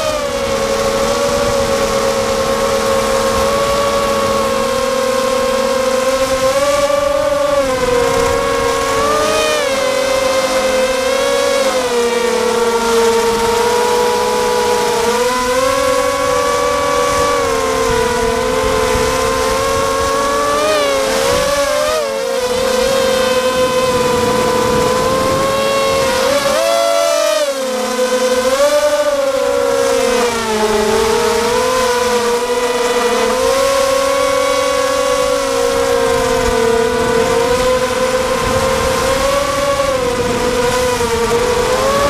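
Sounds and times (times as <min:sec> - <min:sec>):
drone propellers whining: 0:00.0 - 0:42.0
wind rumbling on microphone: 0:00.0 - 0:42.0.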